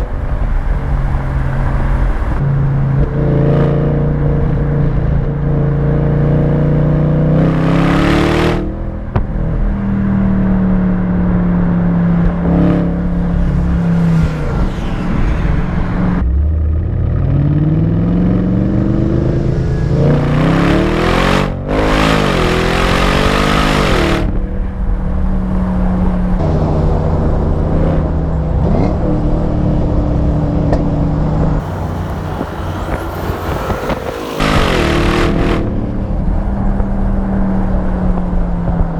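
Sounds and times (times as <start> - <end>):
car engine revving through exhaust: 1.6 - 11.4, 12.0 - 38.9.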